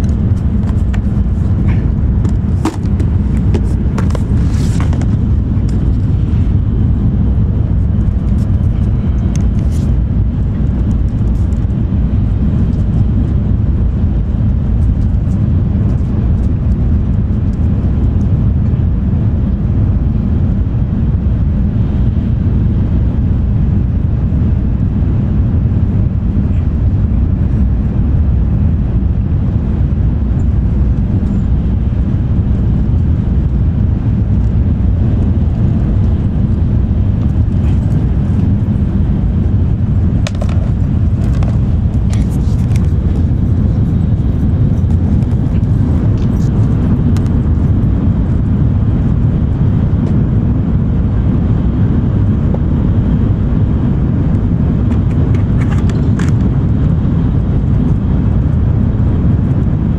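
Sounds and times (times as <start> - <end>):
train cabin low rumble: 0.0 - 59.9.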